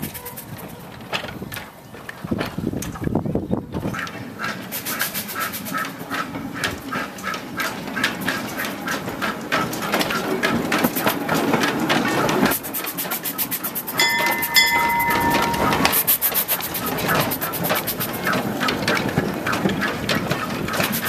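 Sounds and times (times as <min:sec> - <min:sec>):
steam locomotive chuffing and clanking: 0:03.8 - 0:21.0.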